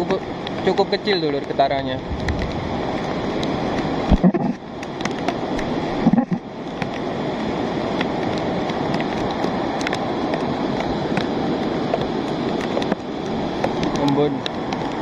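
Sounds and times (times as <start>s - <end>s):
mudflow rushing down river: 0.0s - 15.0s
rain falling: 0.0s - 15.0s
raindrops tapping: 0.0s - 15.0s.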